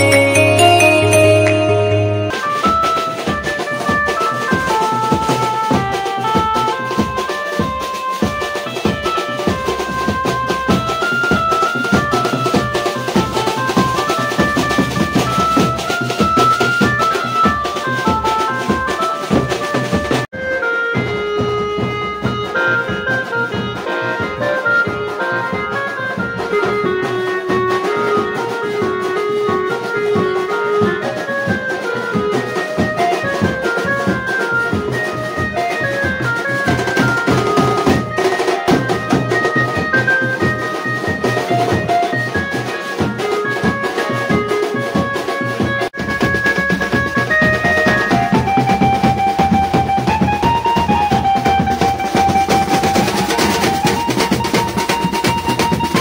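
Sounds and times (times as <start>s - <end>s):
music with steady drum beat: 0.0s - 56.0s.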